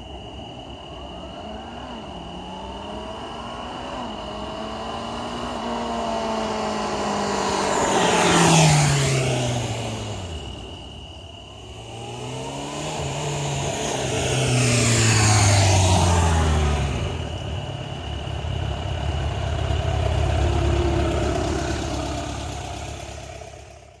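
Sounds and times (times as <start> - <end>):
motorcycle riding past: 1.8 - 24.0.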